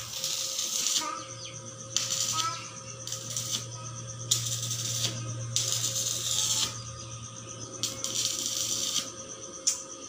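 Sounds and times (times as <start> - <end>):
welding arc crackling on steel: 0.0 - 7.0, 7.7 - 9.9
steady low hum: 0.0 - 10.0.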